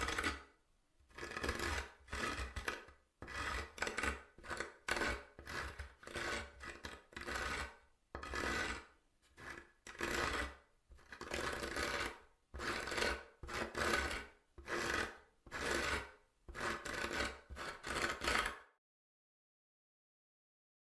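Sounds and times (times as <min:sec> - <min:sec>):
fingernails scratching wood: 0:01.1 - 0:18.7.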